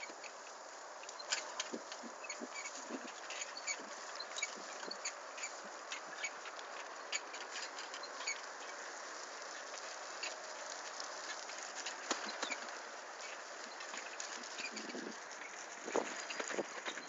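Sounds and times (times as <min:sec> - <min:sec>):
bicycle clicks and rattles: 0:00.0 - 0:17.0
bicycle tyre hiss on dirt: 0:00.0 - 0:17.0.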